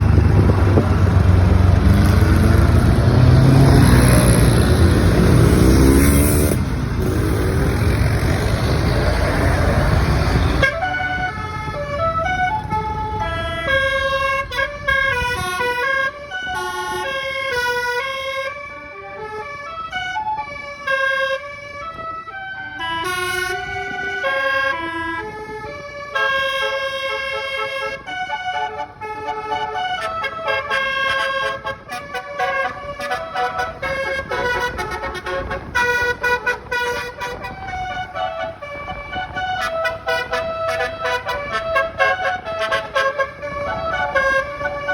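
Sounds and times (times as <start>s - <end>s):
bus engine: 0.0s - 44.9s
road noise: 0.0s - 44.9s
multi-tone bus horn melody: 1.8s - 44.9s.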